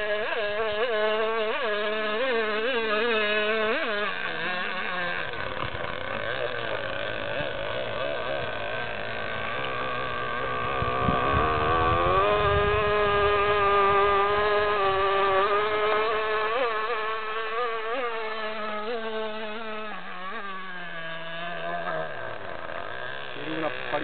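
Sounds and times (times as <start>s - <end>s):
lower tone: 0.0s - 24.0s
model boat engine whining: 0.0s - 24.0s.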